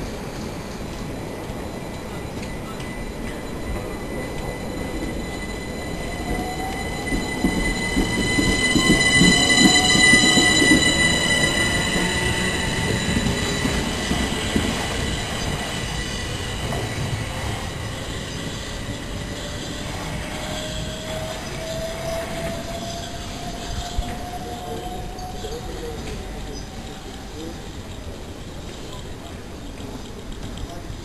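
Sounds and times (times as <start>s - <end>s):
train wheel rumble: 0.0s - 31.0s
electric train motor whine: 0.4s - 27.8s
high-pitched squealing tones: 0.6s - 28.2s.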